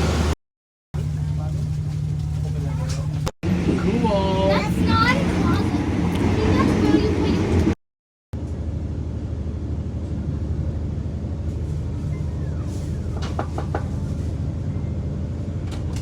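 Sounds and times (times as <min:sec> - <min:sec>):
train hum inside carriage: 0:00.0 - 0:00.4, 0:01.0 - 0:07.8, 0:08.4 - 0:16.0.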